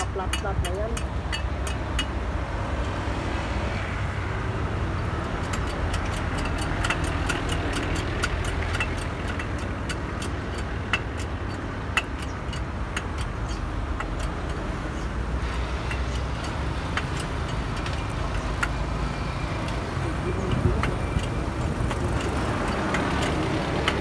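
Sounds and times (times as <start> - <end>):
metal clicks and taps: 0.0 - 2.2, 5.2 - 15.1, 15.8 - 18.8, 19.6 - 24.0
low vehicle rumble: 0.0 - 24.0.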